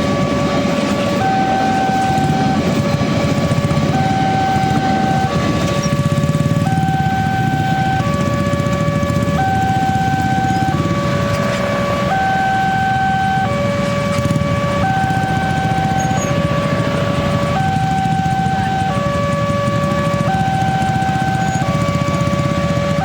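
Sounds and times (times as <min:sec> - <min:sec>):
level crossing alarm two tones: 0:00.0 - 0:23.0
steady low rumble: 0:00.0 - 0:23.0.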